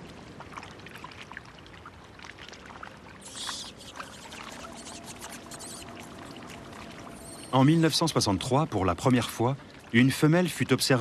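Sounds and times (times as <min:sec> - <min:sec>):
water dripping: 0:00.0 - 0:10.0
water trickling and splashing: 0:00.0 - 0:11.0.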